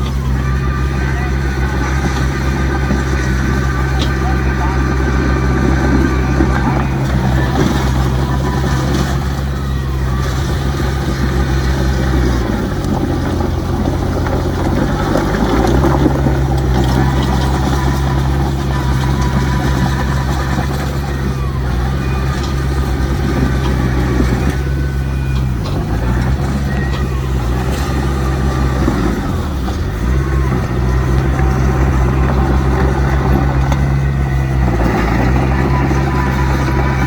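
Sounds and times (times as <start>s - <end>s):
diesel machinery engine: 0.0s - 37.0s.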